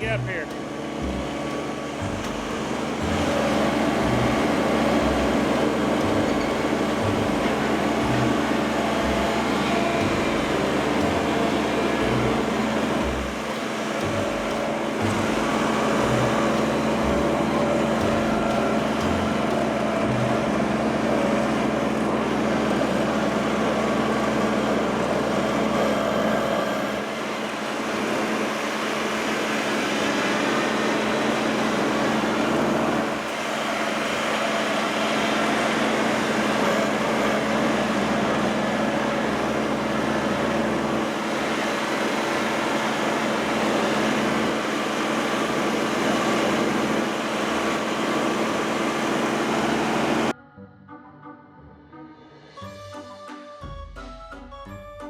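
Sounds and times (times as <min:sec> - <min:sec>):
tractor engine running: 0:00.0 - 0:50.3.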